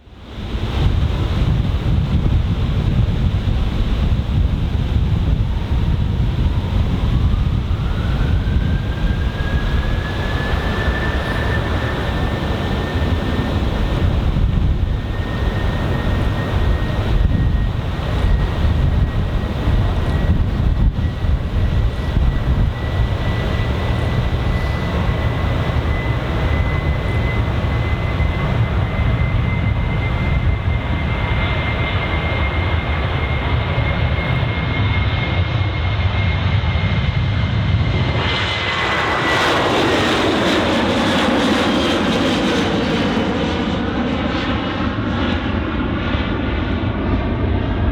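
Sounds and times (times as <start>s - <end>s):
jet engine roar with whine: 0.0s - 47.9s.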